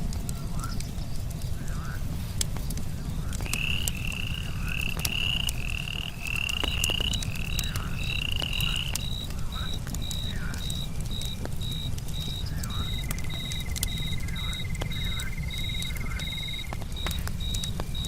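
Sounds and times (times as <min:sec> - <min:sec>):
campfire crackling and popping: 0:00.0 - 0:18.0
frog calling: 0:03.4 - 0:18.0
cricket chirping: 0:03.5 - 0:18.0.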